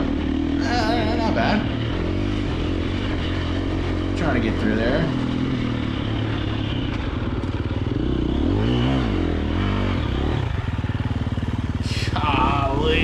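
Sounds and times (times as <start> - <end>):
dirt bike engine chugging: 0.0 - 13.0.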